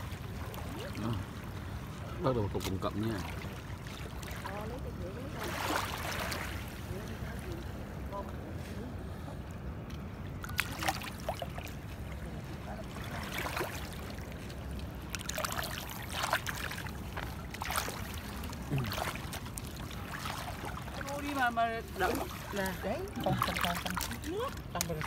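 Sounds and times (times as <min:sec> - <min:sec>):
seawater sloshing and splashing: 0:00.0 - 0:09.2, 0:10.0 - 0:25.0.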